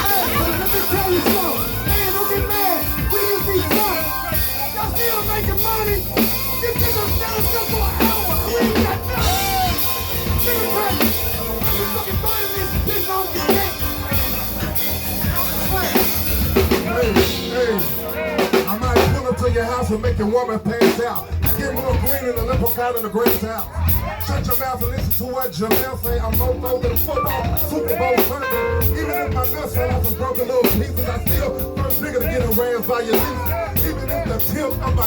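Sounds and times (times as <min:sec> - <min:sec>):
bass line: 0:00.0 - 0:35.0
drum kit beat: 0:00.0 - 0:35.0
live band music: 0:00.0 - 0:35.0.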